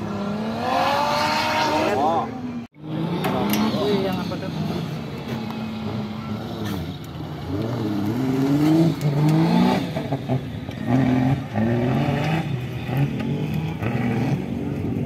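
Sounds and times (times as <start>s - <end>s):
buggy engine revving hard: 0.0s - 5.0s, 5.7s - 15.0s.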